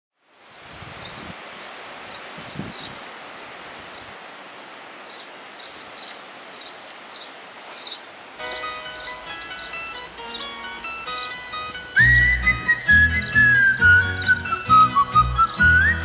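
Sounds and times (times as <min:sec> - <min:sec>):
outdoor background hiss: 0:00.2 - 0:16.0
small birds chirping: 0:00.4 - 0:16.0.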